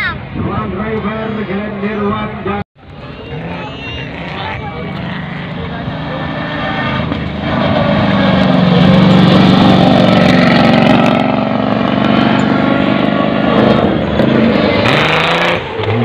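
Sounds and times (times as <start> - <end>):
rally car engine speeding past: 3.1 - 16.0.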